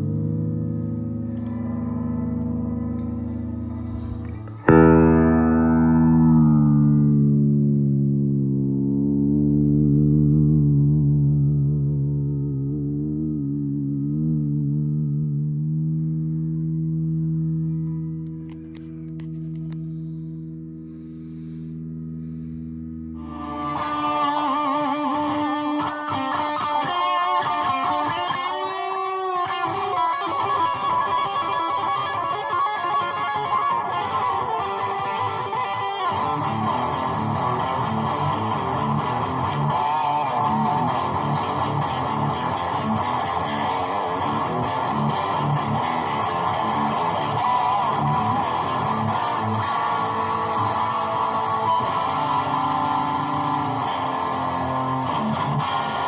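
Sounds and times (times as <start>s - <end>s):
electric guitar through amp: 0.0s - 56.0s.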